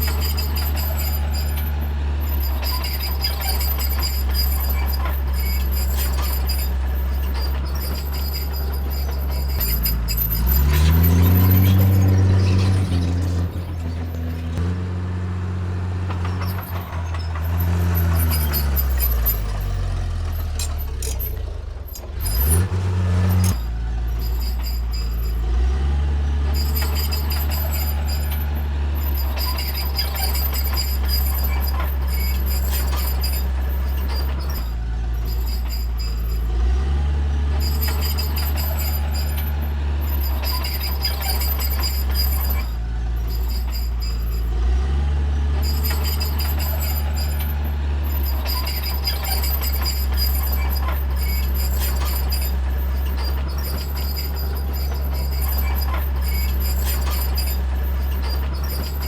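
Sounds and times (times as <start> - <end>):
high-pitched squeals: 0.0 - 14.6, 16.2 - 36.7, 37.5 - 45.0, 45.6 - 59.0
bulldozer diesel engine working: 0.0 - 59.0.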